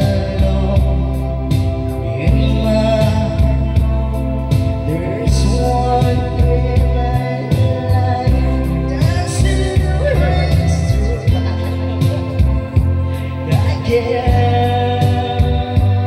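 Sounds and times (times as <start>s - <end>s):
backing track with deep bass: 0.0s - 16.0s
man singing into a microphone: 0.0s - 16.0s.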